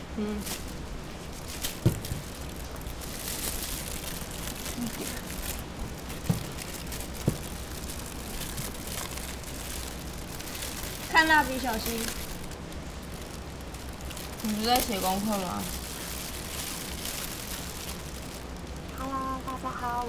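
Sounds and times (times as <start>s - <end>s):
rain hiss: 0.0s - 20.0s
plastic bag crinkling: 0.2s - 20.0s.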